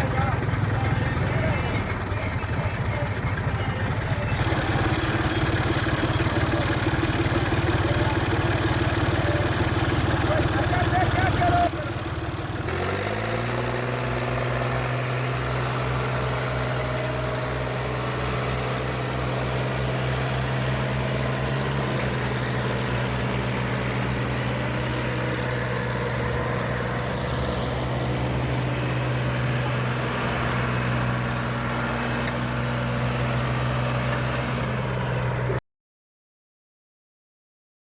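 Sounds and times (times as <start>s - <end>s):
tractor diesel engine running: 0.0s - 35.6s.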